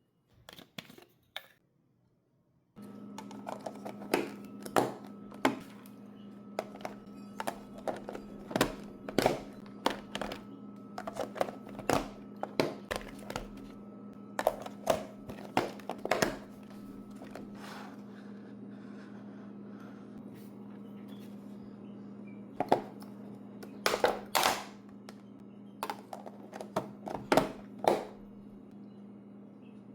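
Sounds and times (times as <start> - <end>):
steady low hum: 2.8 - 29.9.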